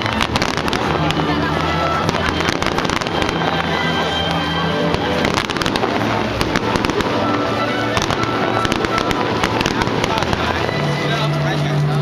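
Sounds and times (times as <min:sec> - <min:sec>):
fireworks bursting and crackling: 0:00.0 - 0:12.0
music with sustained tones: 0:00.0 - 0:12.0.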